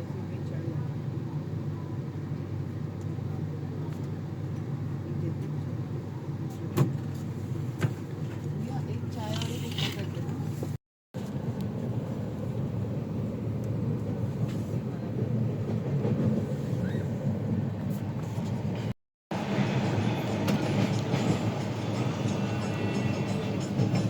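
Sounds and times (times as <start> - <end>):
train rumbling and rattling on track: 0.0 - 24.0.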